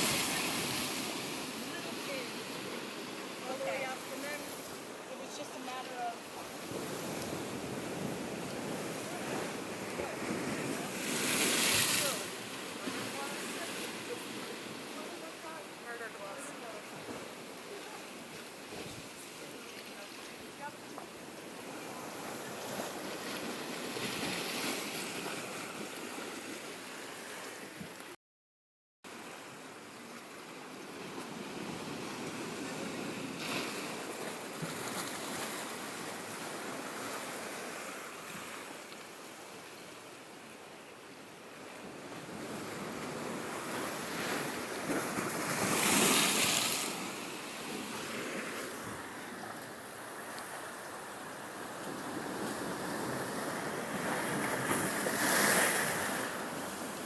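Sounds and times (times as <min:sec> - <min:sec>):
ocean waves washing ashore: 0:00.0 - 0:28.2, 0:29.1 - 0:57.0.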